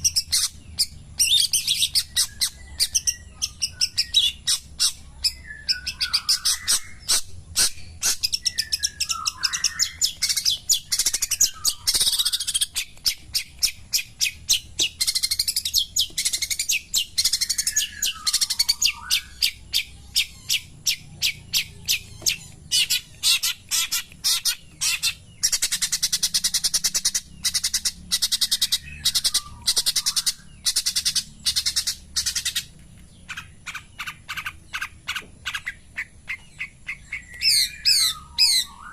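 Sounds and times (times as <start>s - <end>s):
bird chattering song: 0.0s - 38.9s.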